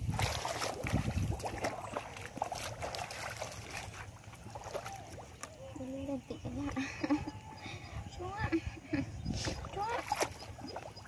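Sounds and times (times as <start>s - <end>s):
wind rumble on microphone: 0.0s - 4.7s, 6.0s - 11.0s
water and mud splashing: 0.0s - 7.0s, 8.2s - 11.0s.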